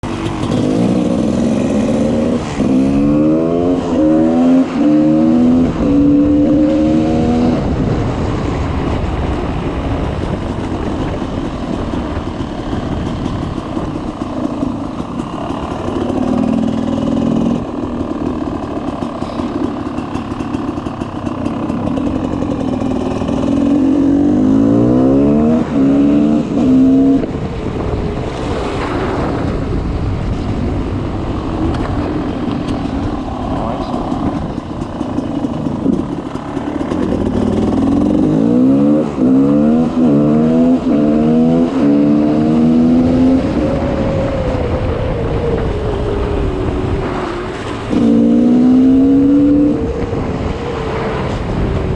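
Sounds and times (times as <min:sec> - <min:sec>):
two-stroke engine shifting gears: 0:00.0 - 0:51.9.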